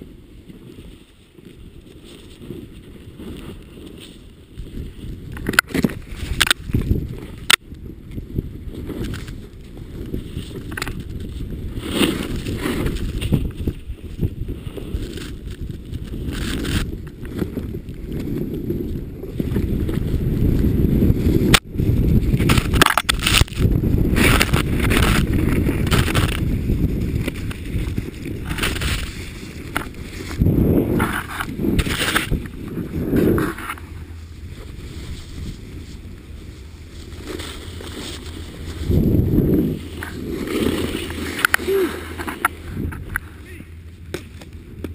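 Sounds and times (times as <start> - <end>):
snowboard sliding through powder: 0.0 - 44.9
wind on microphone: 0.0 - 44.9.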